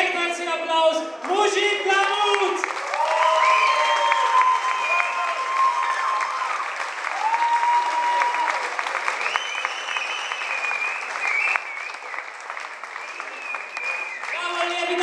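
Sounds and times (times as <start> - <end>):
crowd clapping: 1.2 - 15.0.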